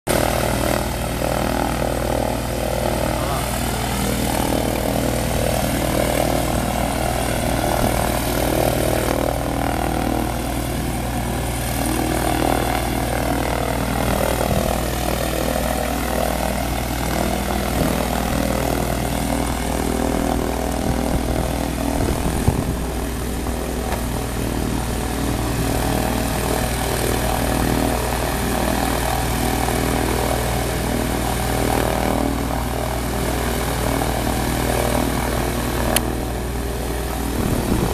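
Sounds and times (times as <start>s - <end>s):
propeller aircraft engine idling: 0.1s - 37.9s.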